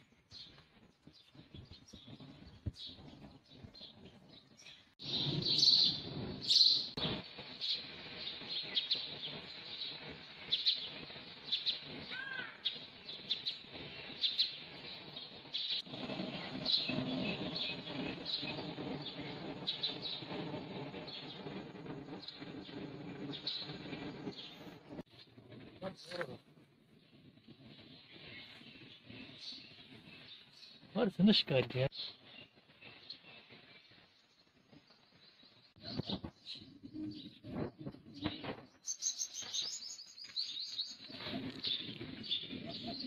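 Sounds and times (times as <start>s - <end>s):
small birds chirping and twittering: 0.0s - 43.0s.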